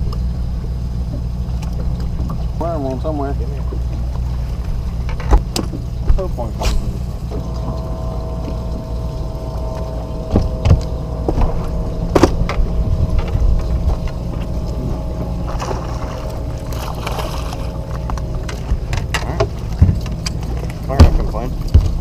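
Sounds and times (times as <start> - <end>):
electric trolling motor humming: 0.0 - 22.0
low rumble: 0.0 - 22.0.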